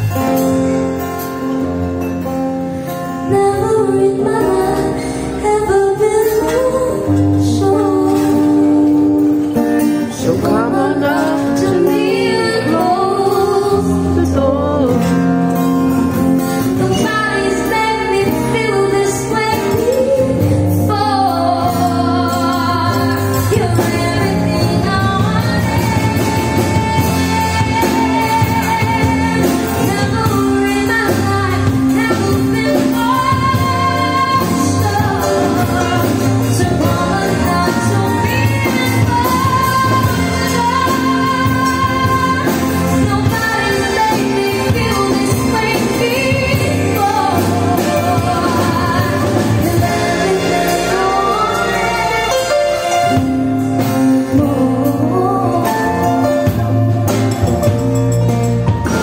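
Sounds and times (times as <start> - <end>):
woman singing lead: 0.0 - 57.9
live band playing: 0.0 - 59.0.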